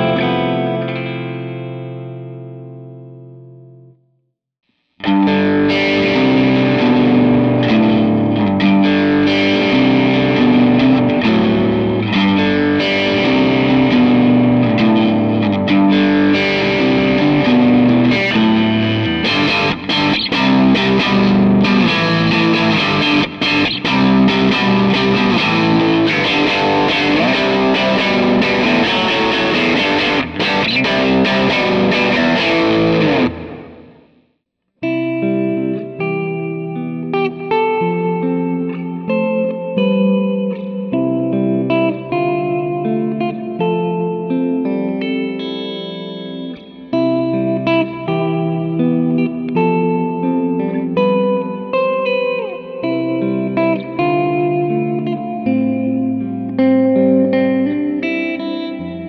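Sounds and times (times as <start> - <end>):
distorted electric guitar chords: 0.0 - 3.9, 5.0 - 59.0.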